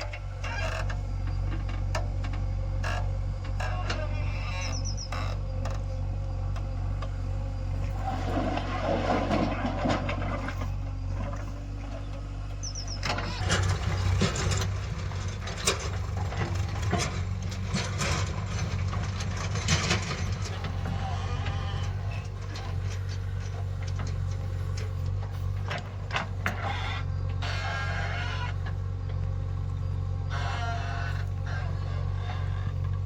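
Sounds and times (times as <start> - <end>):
diesel machinery engine running: 0.0 - 33.0.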